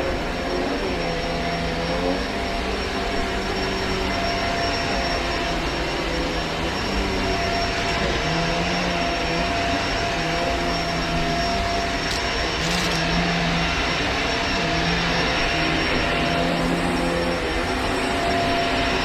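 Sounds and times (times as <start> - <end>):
upright vacuum running on carpet: 0.0 - 19.0.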